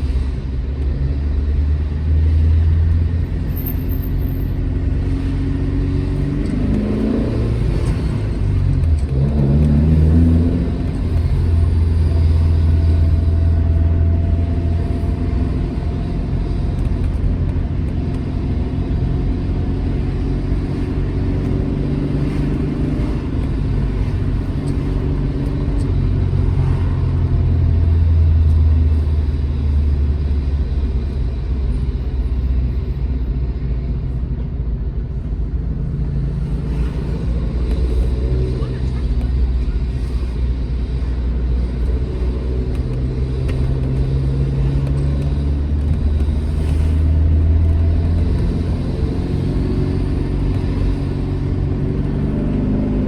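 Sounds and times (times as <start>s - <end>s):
car engine revving while driving: 0.0s - 31.9s, 35.8s - 53.0s
deep road rumble: 0.0s - 53.0s.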